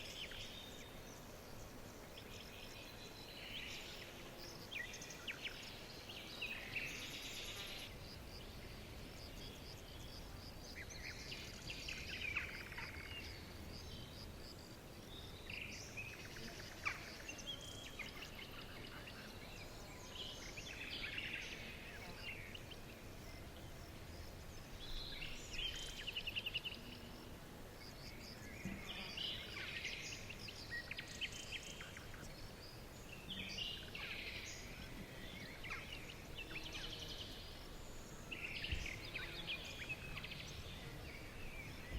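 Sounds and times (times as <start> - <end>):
faint steady hiss: 0.0 - 41.9.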